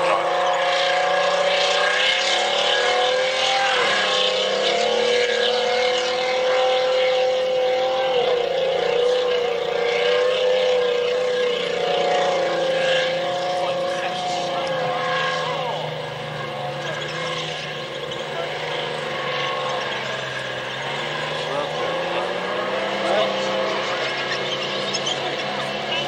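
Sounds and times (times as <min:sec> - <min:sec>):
tank engine running hard: 0:00.0 - 0:26.0.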